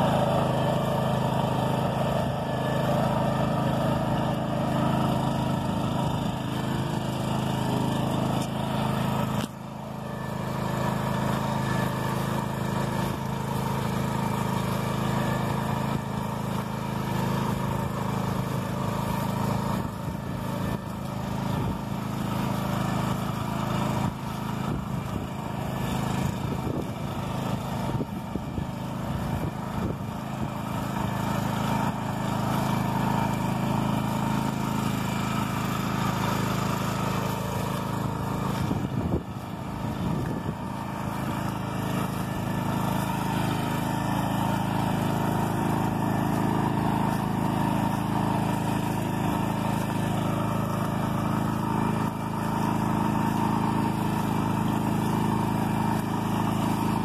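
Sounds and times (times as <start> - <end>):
walking tractor engine running: 0.0 - 57.0.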